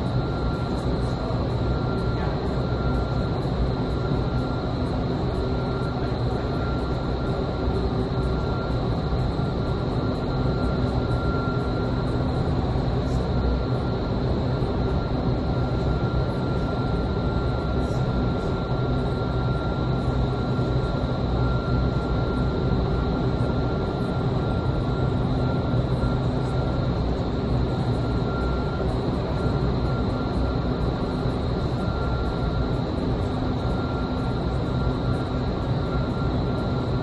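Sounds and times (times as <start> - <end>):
high steady whine: 0.0 - 37.0.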